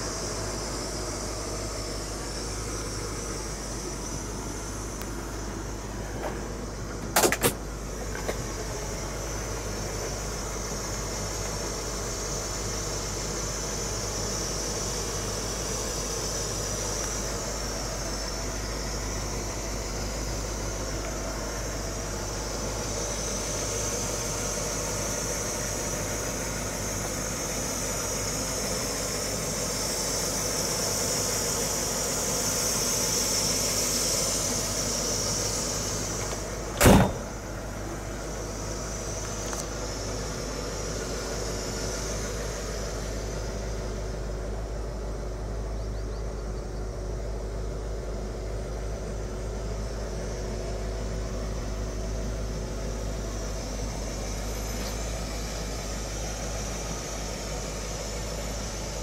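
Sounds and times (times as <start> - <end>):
high hiss: 0.0 - 45.8, 47.2 - 59.0
car engine idling: 0.0 - 59.0.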